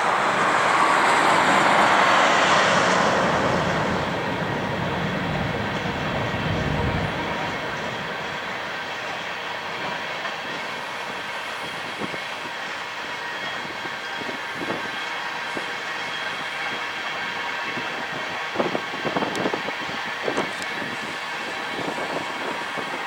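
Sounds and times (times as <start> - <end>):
freight train wheels rumbling: 0.0 - 23.0
train wheels clacking: 0.0 - 23.0.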